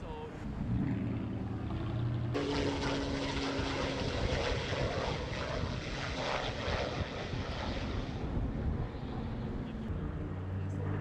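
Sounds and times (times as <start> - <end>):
propeller plane droning overhead: 0.0 - 11.0.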